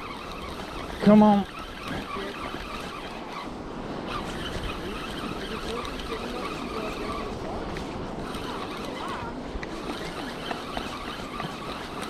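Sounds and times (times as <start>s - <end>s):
faint wavering squeaky tones: 0.0s - 7.4s, 8.2s - 12.0s
wind: 0.0s - 12.0s.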